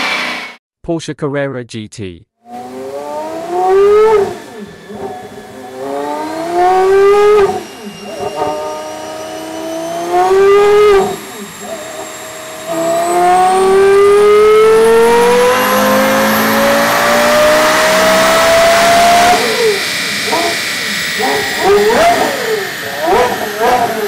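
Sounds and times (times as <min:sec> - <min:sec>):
sports car engine revving: 0:02.5 - 0:24.0.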